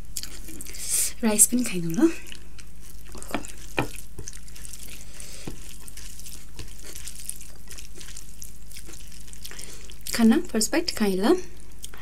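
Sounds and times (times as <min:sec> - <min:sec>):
rice squelching mixed by hand: 0:00.3 - 0:10.5.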